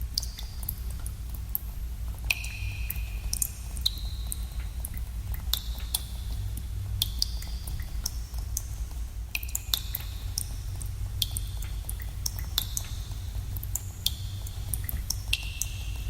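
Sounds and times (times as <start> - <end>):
steady low hum: 0.0 - 16.0
water drops plinking in cave pool: 0.0 - 16.0.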